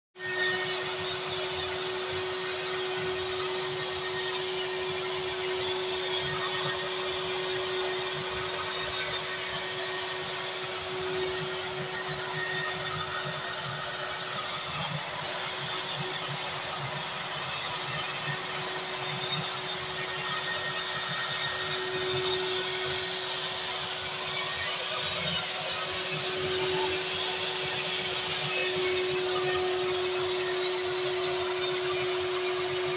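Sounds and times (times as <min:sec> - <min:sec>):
router motor whine: 0:00.2 - 0:32.9.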